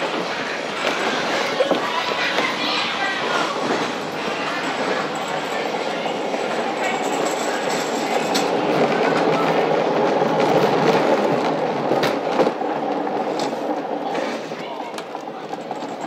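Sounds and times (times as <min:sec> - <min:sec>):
wheels rolling on concrete: 0:00.0 - 0:16.0.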